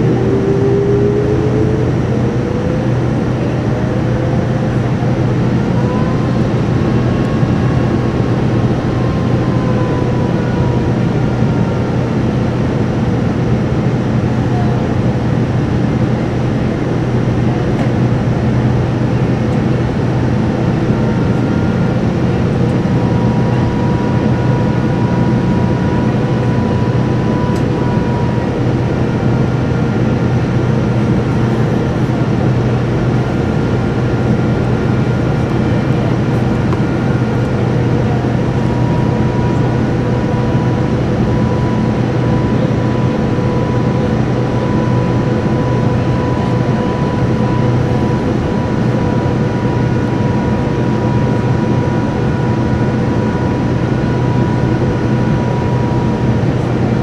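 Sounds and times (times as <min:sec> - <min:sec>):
airplane engine and airflow drone: 0:00.0 - 0:57.0.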